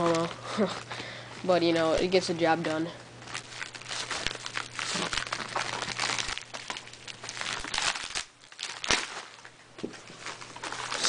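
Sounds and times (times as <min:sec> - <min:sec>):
plastic mailer crinkling: 0:00.0 - 0:11.0.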